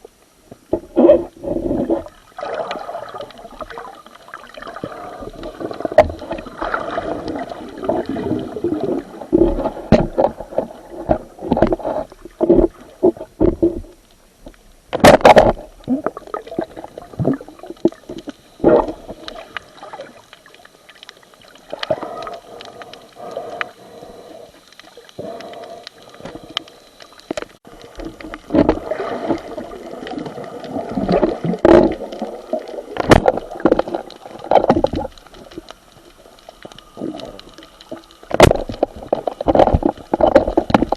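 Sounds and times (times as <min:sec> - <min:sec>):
water gurgling and sloshing: 0:00.0 - 0:40.9.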